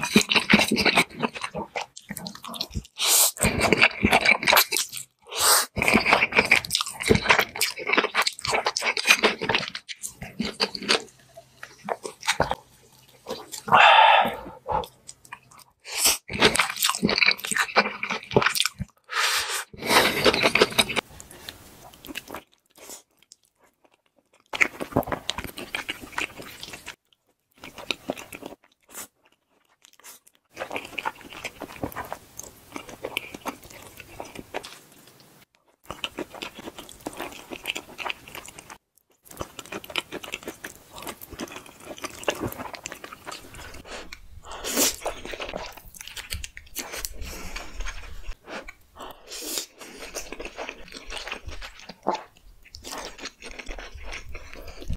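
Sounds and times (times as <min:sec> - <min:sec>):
noodles slurped and chewed: 0:00.0 - 0:27.0, 0:27.6 - 0:54.9.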